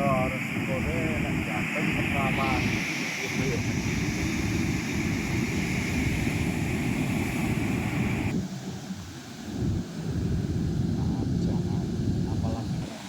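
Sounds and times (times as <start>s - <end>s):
high hiss: 0.0s - 13.0s
wind buffeting microphone: 0.0s - 13.0s.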